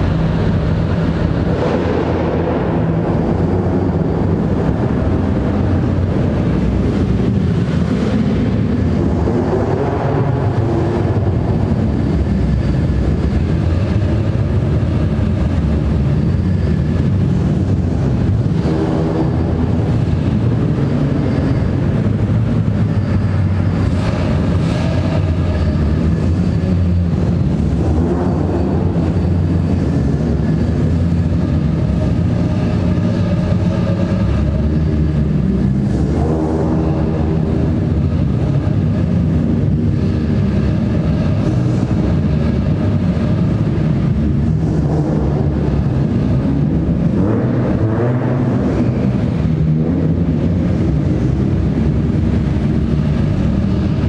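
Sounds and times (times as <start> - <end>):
car engines rumbling: 0.0 - 54.0
engines revving: 0.0 - 54.0.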